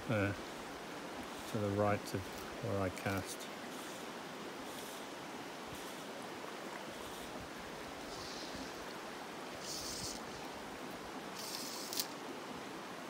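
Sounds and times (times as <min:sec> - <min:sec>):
river flowing over stones: 0:00.0 - 0:13.0.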